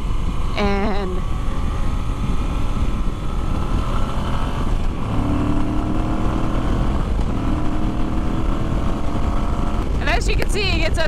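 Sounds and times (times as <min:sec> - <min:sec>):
motorcycle accelerating hard: 0:00.0 - 0:11.0.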